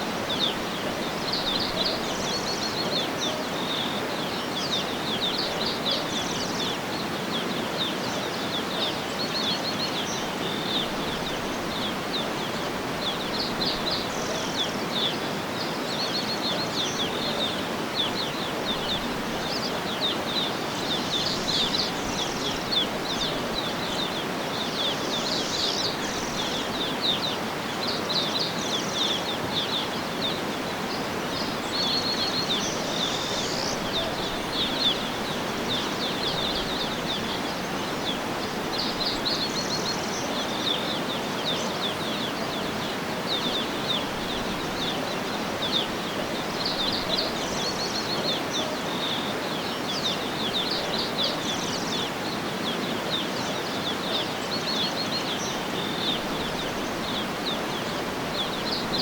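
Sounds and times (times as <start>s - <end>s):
outdoor background hiss: 0.0s - 59.0s
birds chirping and calling: 0.2s - 59.0s.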